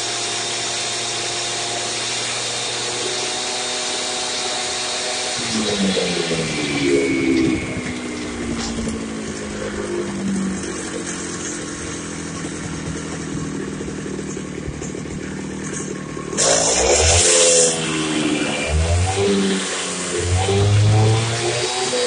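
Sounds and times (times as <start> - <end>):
concrete cut-off saw running: 0.0 - 22.0.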